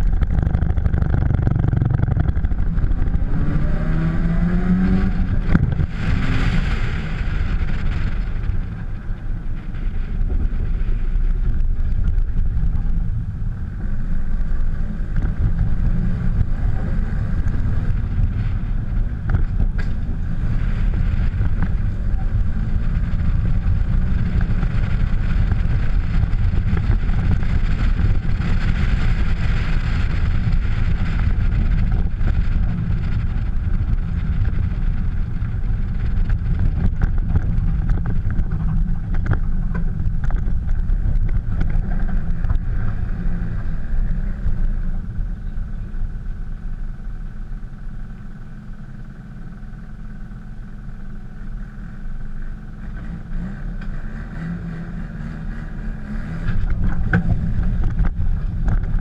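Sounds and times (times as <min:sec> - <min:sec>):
car engine and exhaust running: 0:00.0 - 0:59.0.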